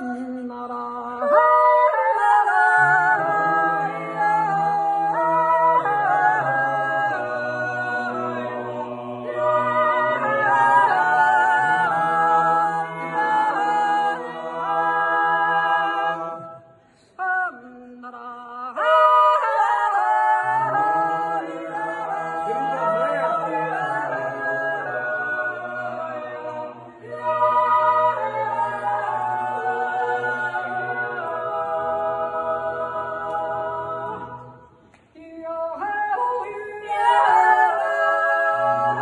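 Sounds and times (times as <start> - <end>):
group singing in close harmony: 0.0 - 39.0.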